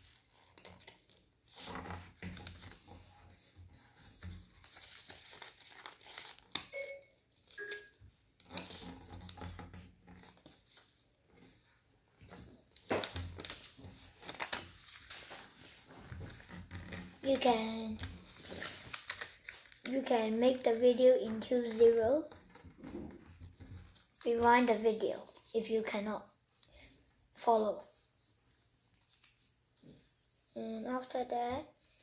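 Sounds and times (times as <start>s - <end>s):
paper rustling and crinkling: 0.0s - 32.0s.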